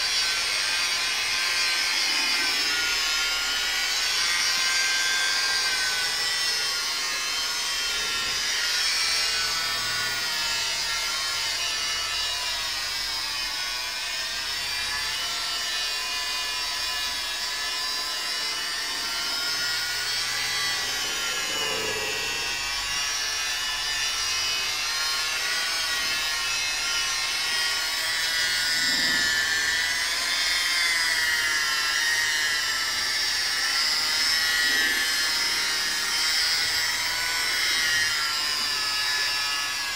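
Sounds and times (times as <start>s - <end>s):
car polisher motor whining: 0.0s - 39.9s.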